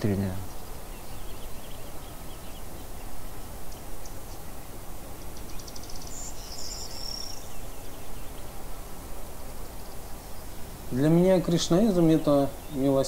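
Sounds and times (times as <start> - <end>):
faint high bird chirps: 0.0 - 13.0
low background hiss: 0.0 - 13.0.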